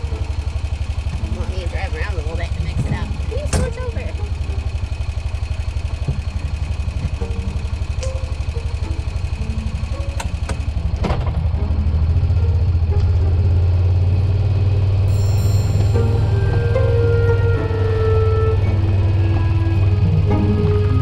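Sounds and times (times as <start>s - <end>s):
utv engine idling: 0.0s - 21.0s.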